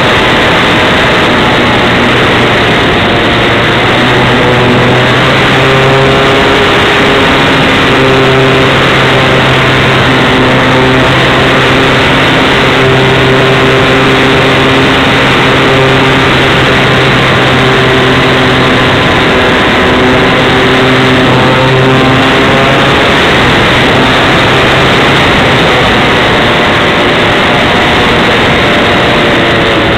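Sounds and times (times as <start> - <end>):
model plane motor drone: 0.0 - 29.9
wind noise: 0.0 - 29.9.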